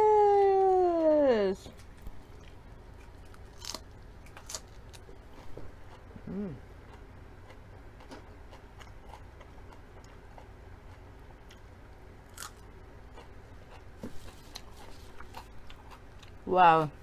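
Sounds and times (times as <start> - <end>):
chewing crisp lettuce: 1.8 - 16.4.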